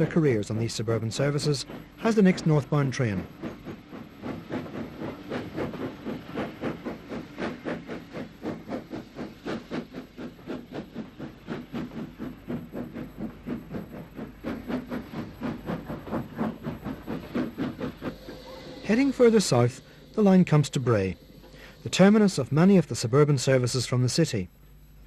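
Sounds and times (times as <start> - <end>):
steam hissing: 0.0 - 24.5
steam locomotive chuffing: 0.0 - 25.0.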